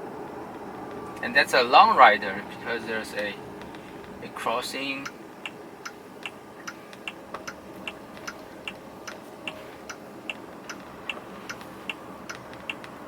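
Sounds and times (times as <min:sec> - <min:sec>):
faint road noise: 0:00.0 - 0:13.0
turn signal ticking: 0:00.0 - 0:13.0.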